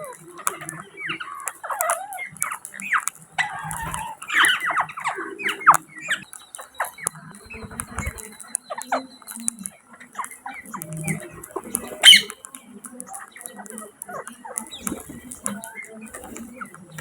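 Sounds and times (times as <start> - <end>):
parrots squawking and chirping: 0.0 - 17.0
sharp clicks: 0.0 - 17.0.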